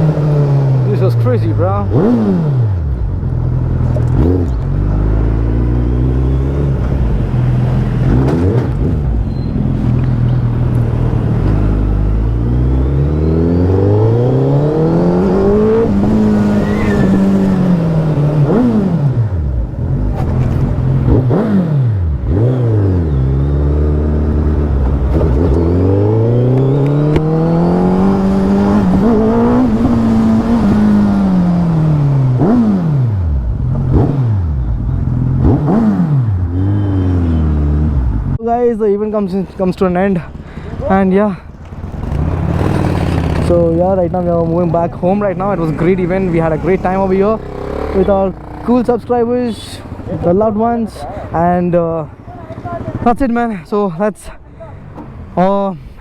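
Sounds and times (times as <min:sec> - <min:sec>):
motorcycle engine revving: 0:00.0 - 0:38.4, 0:39.2 - 0:53.2.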